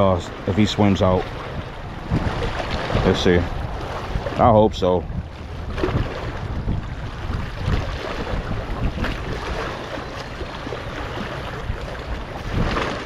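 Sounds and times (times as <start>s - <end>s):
lapping water: 0.0s - 13.0s
wind buffeting microphone: 0.0s - 13.0s.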